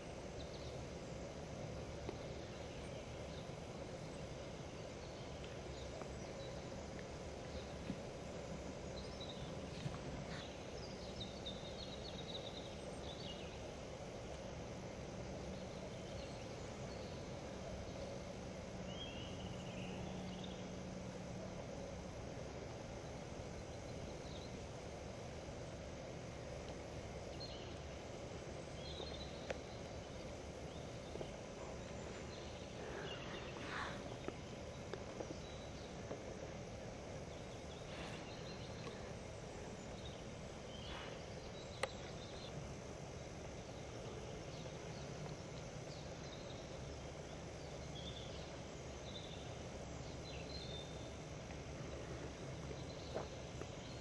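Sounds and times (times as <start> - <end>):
forest ambience hiss: 0.0 - 54.0.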